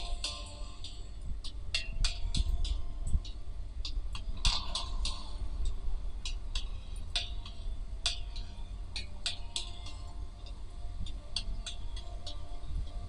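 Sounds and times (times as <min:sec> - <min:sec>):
sharp percussive ticks: 0:00.0 - 0:13.0
steady low hum: 0:00.0 - 0:13.0.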